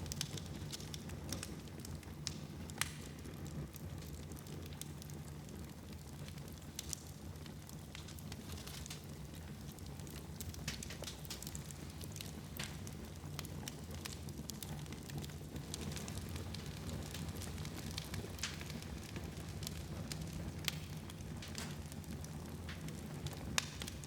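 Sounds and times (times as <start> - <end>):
fire popping: 0.0 - 24.0
low rush of flames: 0.0 - 24.0
wood fire crackling: 0.0 - 24.0.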